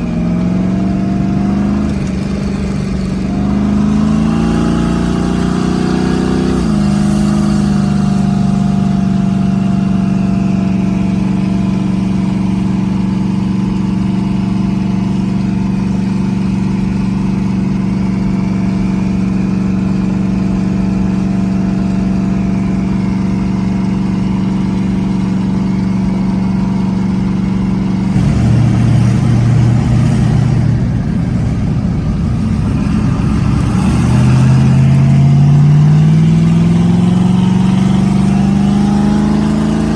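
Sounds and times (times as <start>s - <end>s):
car engine driving: 0.0s - 39.9s.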